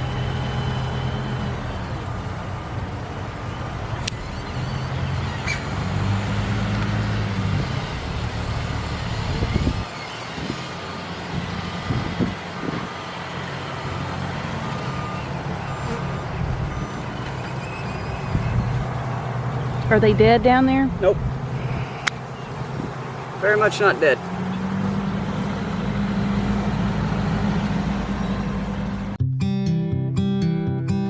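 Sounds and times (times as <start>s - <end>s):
heavy vehicle engine running: 0.0s - 29.2s
reversing alarm beeping: 0.0s - 29.2s.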